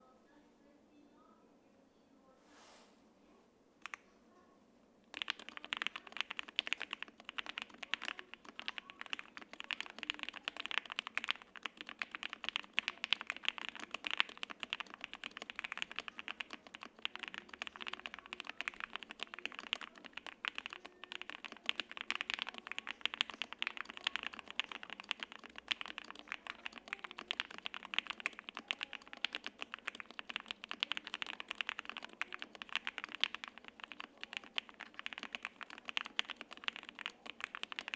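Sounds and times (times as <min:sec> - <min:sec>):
fast mechanical keyboard typing: 0:05.1 - 0:37.9.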